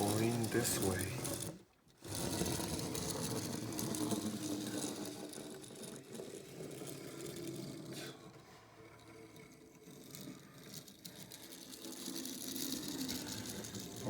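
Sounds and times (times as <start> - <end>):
toy wheels rattling on table: 0.0 - 14.0.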